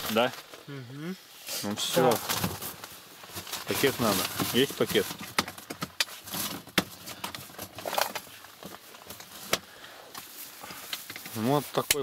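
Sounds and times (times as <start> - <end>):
plastic rustling: 0.0 - 0.7, 1.6 - 11.9.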